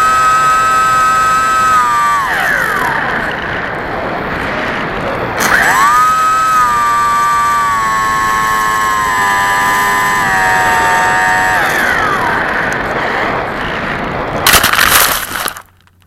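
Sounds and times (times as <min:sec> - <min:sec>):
electric motor whining: 0:00.0 - 0:13.6.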